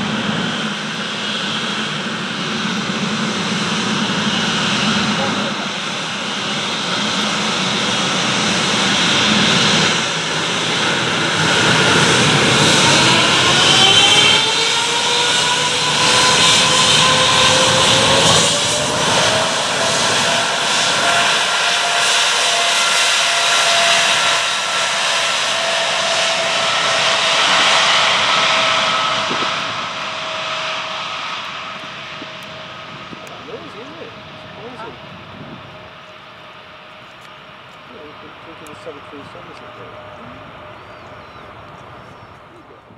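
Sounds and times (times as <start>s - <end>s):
jet engines spooling up: 0.0s - 42.9s.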